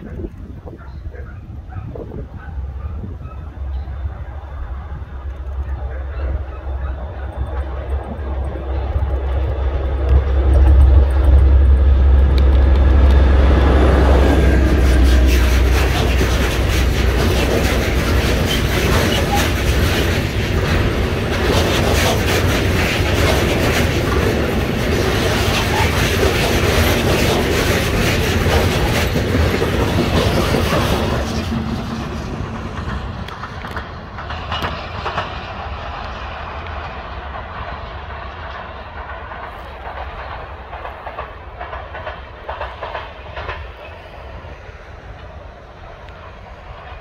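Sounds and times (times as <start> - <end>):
train low rumble: 0.0 - 47.0
train wheels clattering: 4.9 - 47.0.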